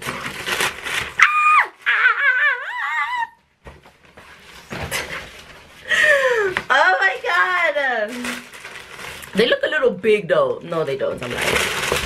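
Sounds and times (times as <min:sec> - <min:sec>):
tissue paper rustling: 0:00.0 - 0:02.4, 0:03.7 - 0:09.9, 0:10.8 - 0:12.0.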